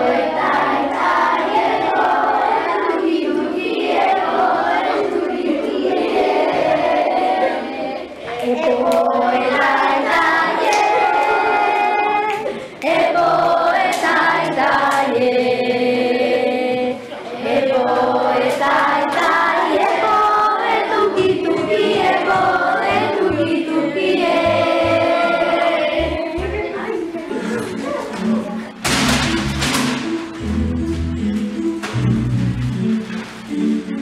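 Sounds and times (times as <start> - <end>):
children singing in unison: 0.0 - 28.8.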